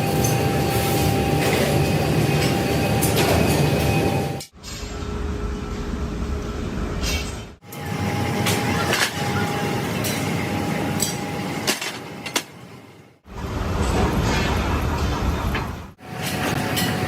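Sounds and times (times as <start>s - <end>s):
machine drone with steady whine: 0.0s - 17.0s.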